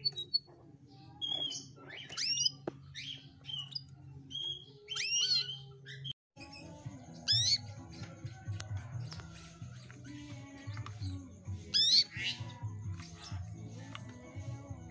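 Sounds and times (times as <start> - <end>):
canary chirps and whistles: 0.0 - 13.6.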